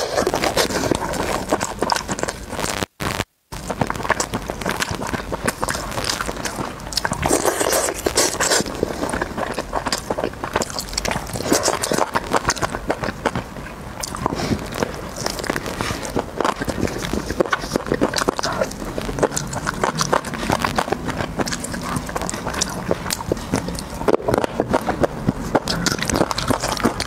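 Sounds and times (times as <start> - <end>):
wet mouth clicks: 0.0 - 2.5, 3.9 - 27.0
meat being torn and chewed: 0.0 - 2.6, 3.7 - 27.0.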